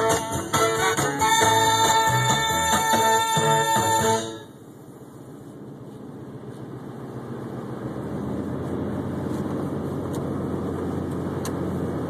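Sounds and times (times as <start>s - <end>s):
road and engine noise in cabin: 0.0s - 12.0s.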